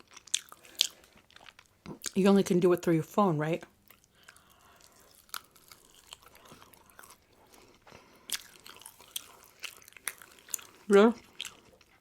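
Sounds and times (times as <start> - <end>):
person chewing food: 0.0 - 2.2, 3.8 - 12.0.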